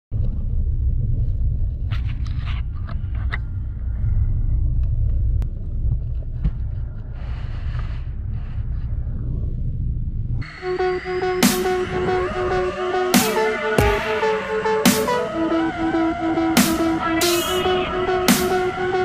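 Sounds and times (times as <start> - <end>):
car engine rumbling: 0.1 - 19.0.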